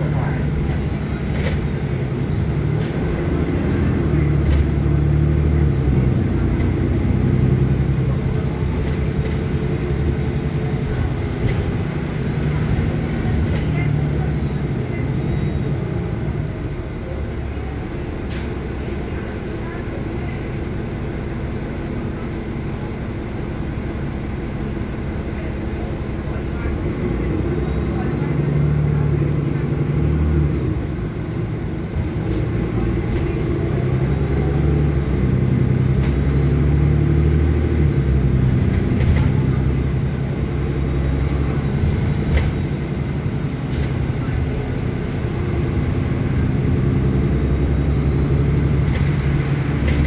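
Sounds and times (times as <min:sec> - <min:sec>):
bus engine and road noise: 0:00.0 - 0:50.0.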